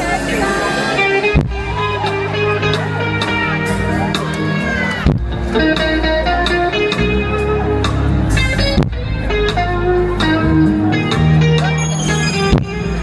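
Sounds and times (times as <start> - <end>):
bass: 0.0 - 13.0
drums: 0.0 - 13.0
guitar melody: 0.0 - 13.0.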